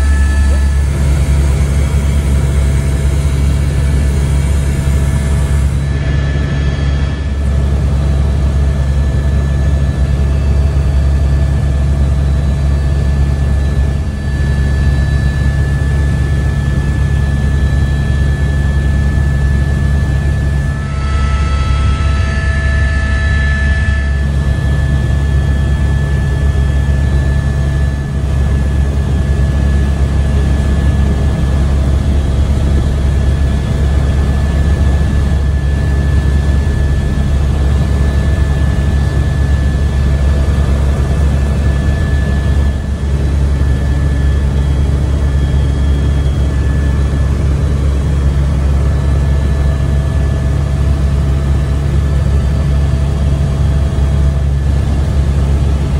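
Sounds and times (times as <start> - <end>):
helicopter engine and rotor drone: 0.0 - 55.9
thin steady whine: 0.0 - 55.9.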